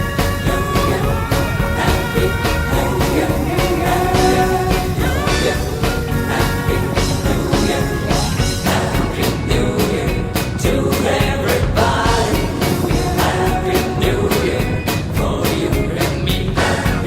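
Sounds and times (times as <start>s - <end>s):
rock music with steady beat: 0.0s - 17.0s.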